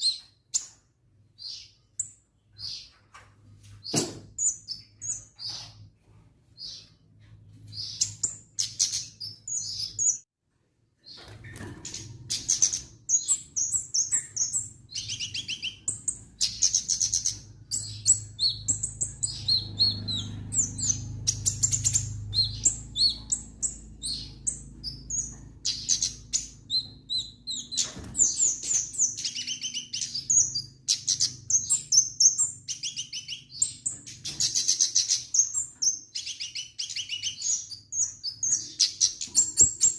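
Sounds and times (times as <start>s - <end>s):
songbird chirping and trilling: 0.0s - 10.3s, 11.0s - 39.9s.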